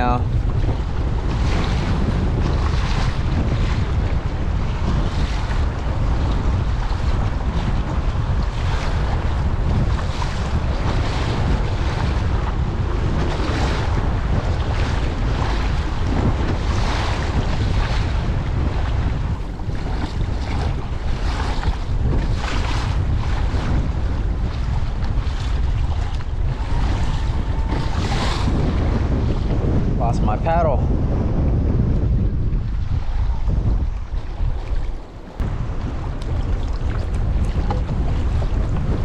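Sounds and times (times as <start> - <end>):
lake water splashing: 0.0 - 29.5, 32.0 - 39.0
wind buffeting microphone: 0.0 - 39.0.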